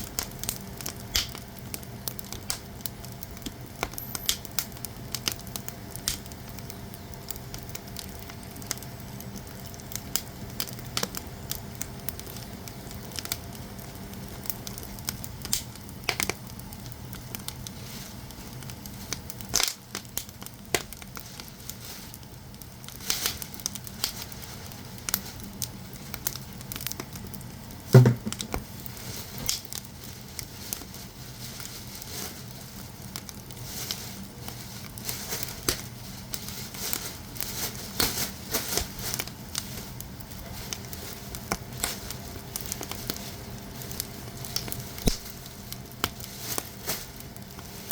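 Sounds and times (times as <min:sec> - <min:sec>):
firewood crackling and popping: 0:00.0 - 0:47.9.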